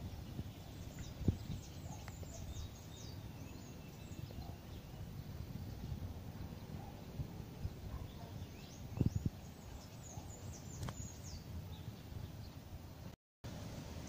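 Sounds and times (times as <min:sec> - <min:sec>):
wind buffeting microphone: 0:00.0 - 0:13.0
small birds chirping: 0:00.0 - 0:13.1.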